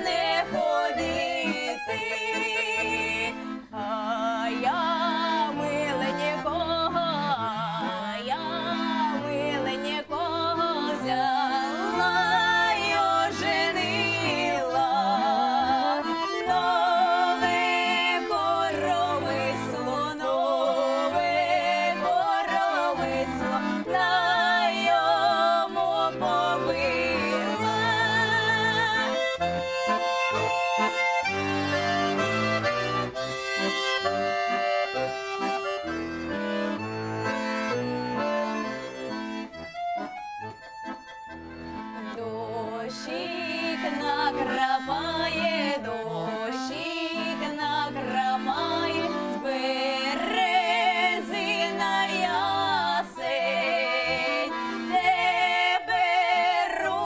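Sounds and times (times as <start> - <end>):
button accordion playing folk tune: 0.0 - 57.0.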